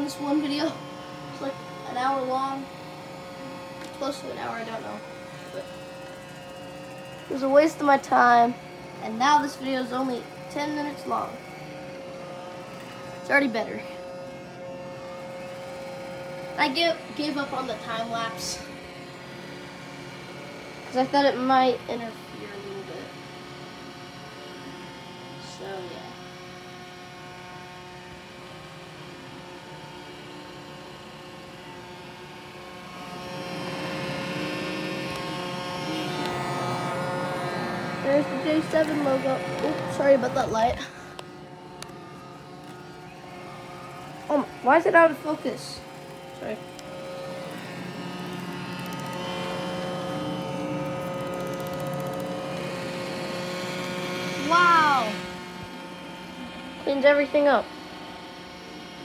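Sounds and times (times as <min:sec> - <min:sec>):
robot vacuum motor whine: 0:00.0 - 0:59.0.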